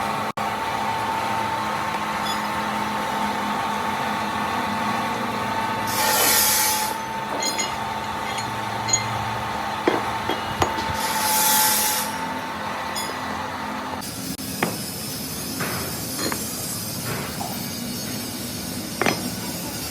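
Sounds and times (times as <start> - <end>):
workshop machinery humming: 0.0 - 19.9.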